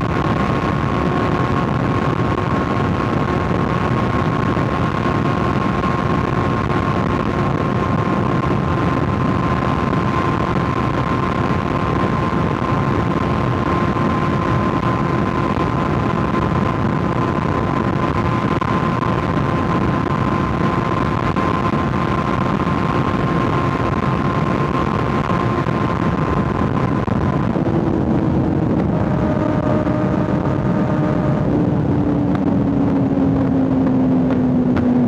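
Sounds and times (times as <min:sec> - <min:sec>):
motorcycle engine cruising: 0:00.0 - 0:35.0
wind and road noise: 0:00.0 - 0:35.0.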